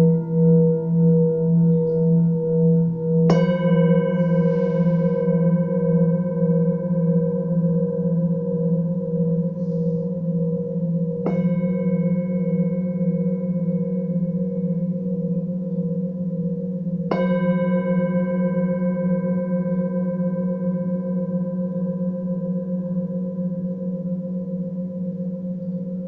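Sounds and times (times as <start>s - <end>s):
low pulsing tone: 0.0s - 20.9s
singing bowl struck: 0.0s - 22.4s.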